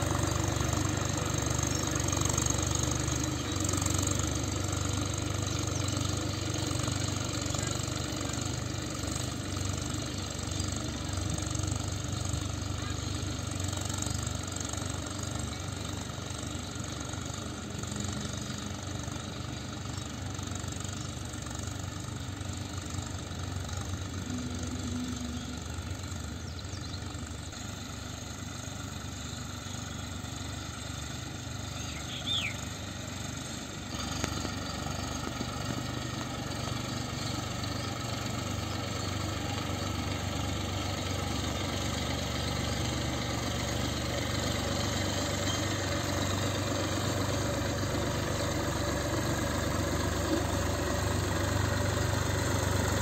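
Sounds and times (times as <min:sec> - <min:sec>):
tractor engine running under load: 0:00.0 - 0:53.0.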